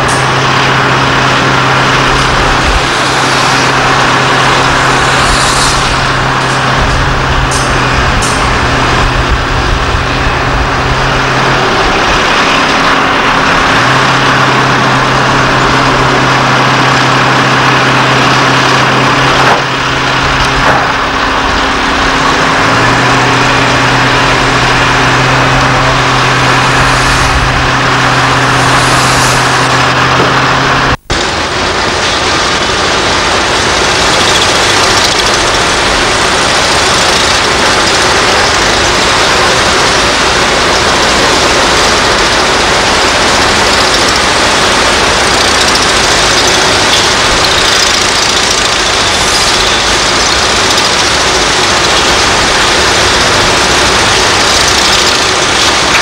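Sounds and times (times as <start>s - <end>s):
excavator engines running: 0.0s - 56.0s
low hum: 0.0s - 56.0s.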